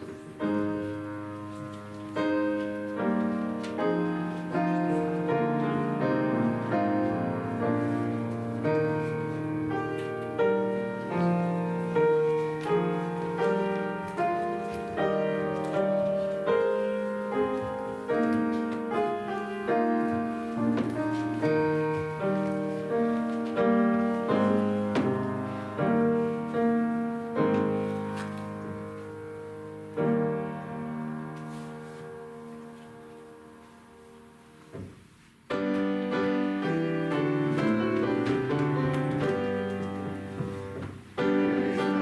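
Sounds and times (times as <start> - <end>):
slow solo piano piece: 0.0 - 42.0.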